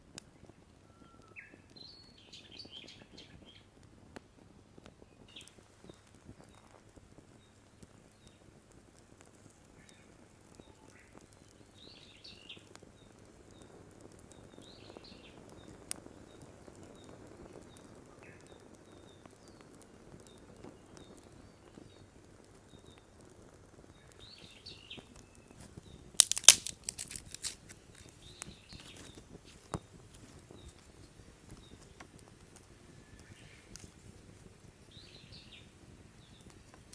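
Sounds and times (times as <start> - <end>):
sharp crackling and snapping: 0.0 - 36.9
small birds chirping: 0.2 - 3.8, 4.8 - 8.6, 9.4 - 36.9.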